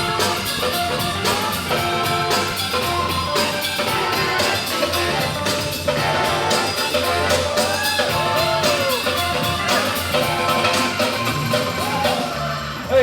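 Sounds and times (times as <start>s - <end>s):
funk music: 0.0s - 13.0s.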